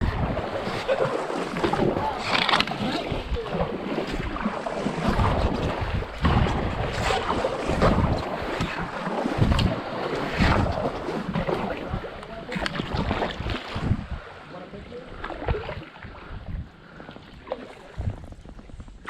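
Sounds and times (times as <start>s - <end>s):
moving water: 0.0s - 19.0s
water splashes: 0.0s - 19.0s
wind buffeting microphone: 0.0s - 19.0s.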